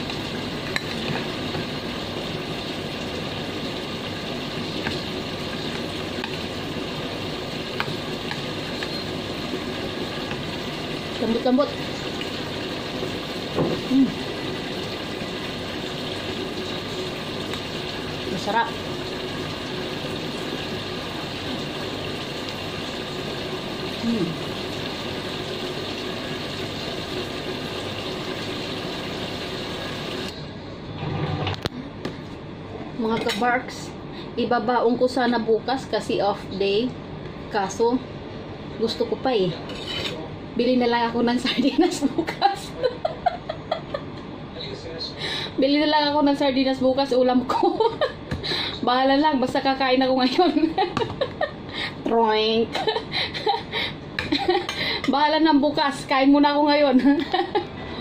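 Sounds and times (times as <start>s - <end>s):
electric fan whirring: 0.0s - 58.0s.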